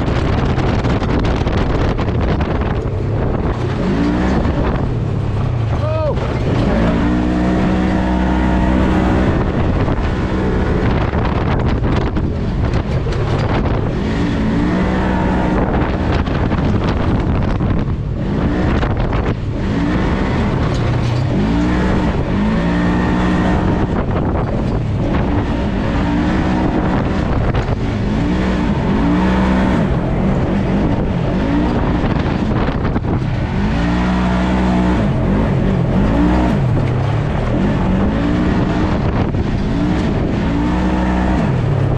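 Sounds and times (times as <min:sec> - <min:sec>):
engine running hard: 0:00.0 - 0:41.9.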